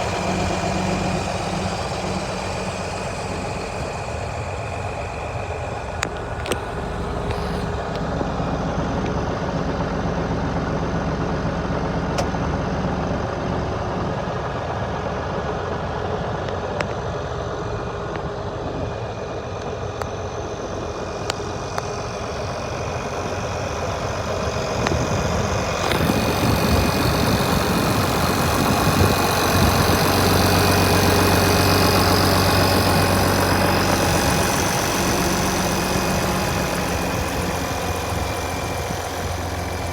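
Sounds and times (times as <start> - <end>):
diesel tractor idling: 0.0 - 39.9.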